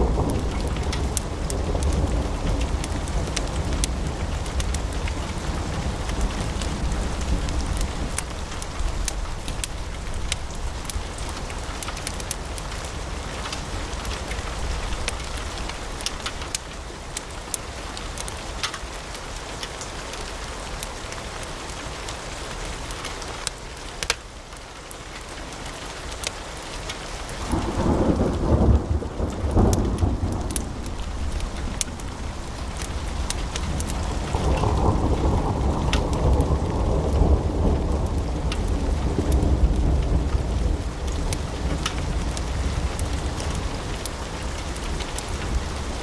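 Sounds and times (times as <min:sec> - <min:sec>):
fire popping and snapping: 0:00.0 - 0:19.9, 0:26.1 - 0:46.0
hiss and rumble of flames: 0:00.0 - 0:46.0.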